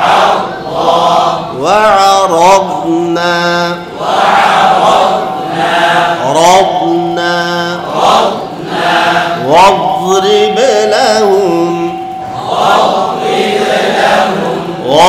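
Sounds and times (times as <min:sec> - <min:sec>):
man chanting melodically: 0:00.0 - 0:12.2, 0:12.8 - 0:15.0.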